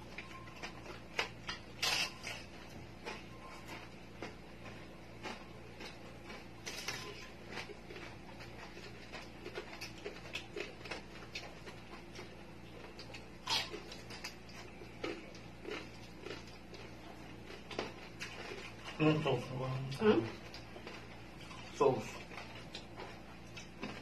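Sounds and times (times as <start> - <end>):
people chewing: 0.0 - 24.0
crispy skin crunching: 0.3 - 24.0.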